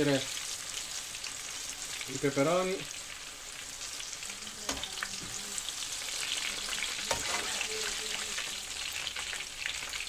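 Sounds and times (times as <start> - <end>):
peppers sizzling in hot oil: 0.0 - 10.0.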